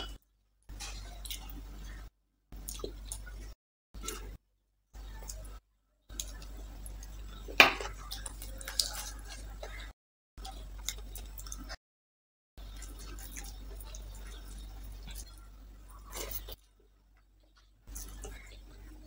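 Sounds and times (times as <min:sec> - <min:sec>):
wet chewing: 0:00.7 - 0:04.4, 0:05.0 - 0:11.8, 0:12.6 - 0:19.0.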